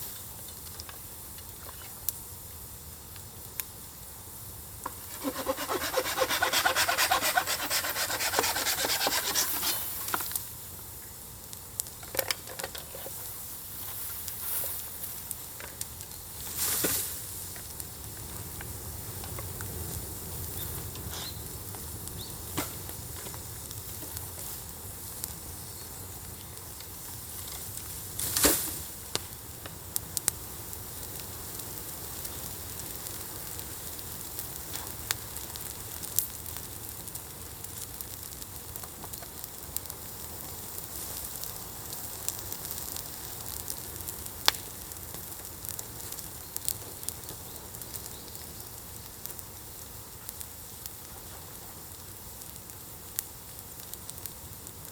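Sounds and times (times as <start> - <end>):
wood fire crackling and popping: 0.0 - 2.2, 4.8 - 54.9.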